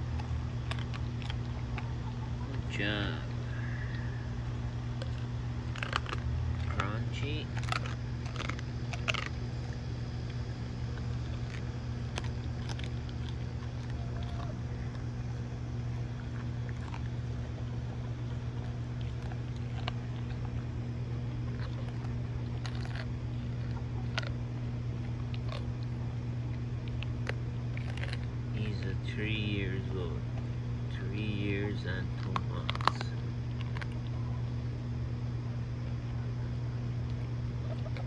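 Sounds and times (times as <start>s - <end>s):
bones crunching: 0.0s - 4.2s, 4.9s - 34.3s
dog chewing: 0.0s - 36.4s, 37.0s - 38.0s
steady low hum: 0.0s - 38.0s.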